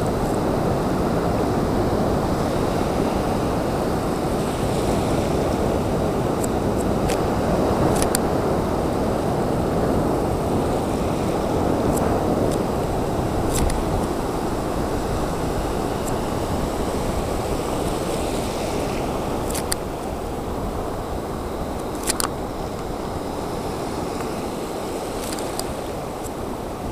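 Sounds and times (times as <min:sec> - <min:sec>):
small waves breaking on sand: 0:00.0 - 0:26.9.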